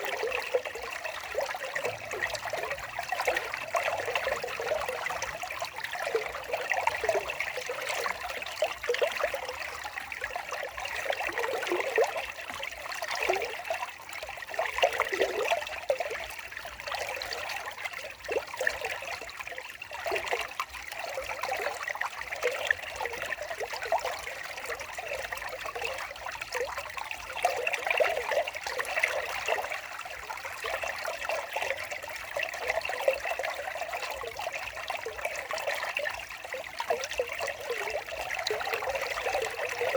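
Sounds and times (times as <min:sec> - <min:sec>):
water trickling over stones: 0:00.0 - 0:39.9.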